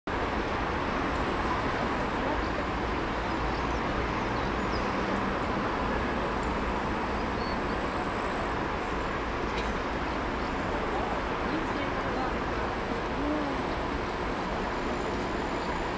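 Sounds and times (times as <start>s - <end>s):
steady hiss and rumble: 0.1s - 15.9s.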